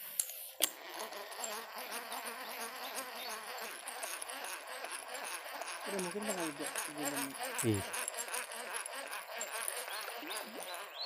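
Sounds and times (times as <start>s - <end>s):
flying insect buzzing: 0.5s - 11.0s.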